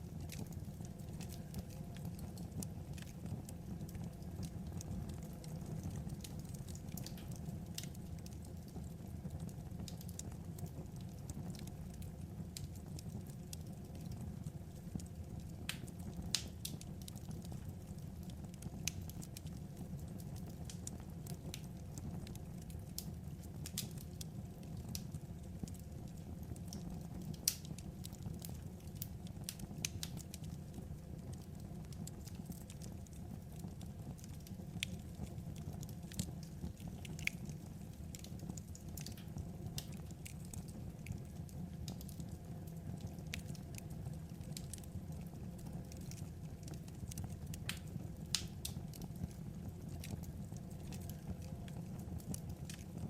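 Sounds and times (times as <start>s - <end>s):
fire crackles and pops: 0.0s - 53.0s
wood fire low rumble: 0.0s - 53.0s.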